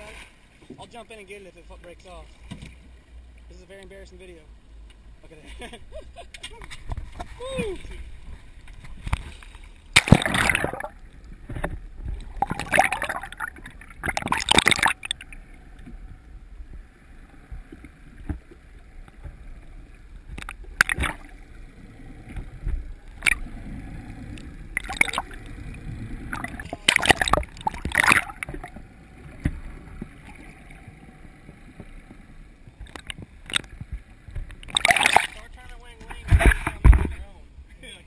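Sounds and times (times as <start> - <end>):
waves splashing: 0.0 - 4.4, 5.2 - 38.0
water sloshing underwater: 0.0 - 37.7.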